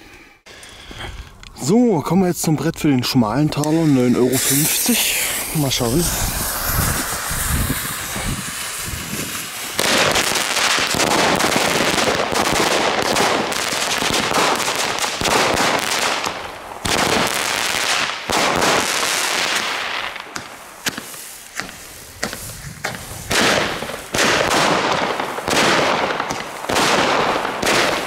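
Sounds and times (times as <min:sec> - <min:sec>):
firework shots and crackling bursts: 0:03.5 - 0:28.0
fireworks hissing and sparking: 0:03.5 - 0:28.0.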